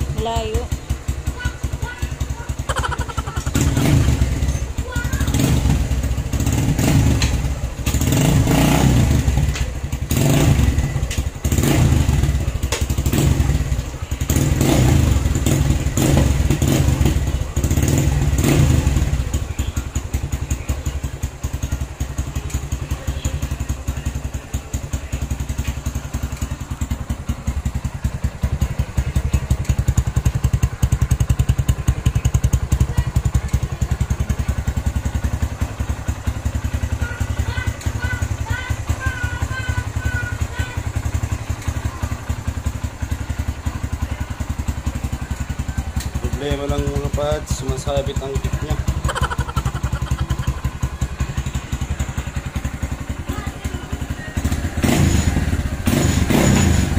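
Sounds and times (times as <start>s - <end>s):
motorcycle engine revving and idling: 0.0s - 56.9s.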